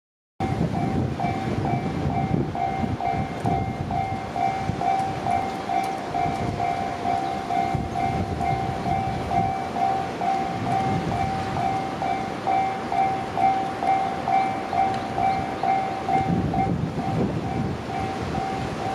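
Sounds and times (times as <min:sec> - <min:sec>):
level crossing warning bell: 0:00.4 - 0:18.9.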